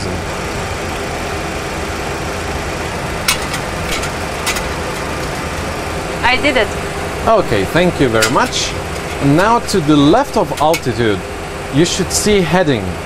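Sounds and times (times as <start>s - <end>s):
cockpit background noise: 0.0s - 13.0s.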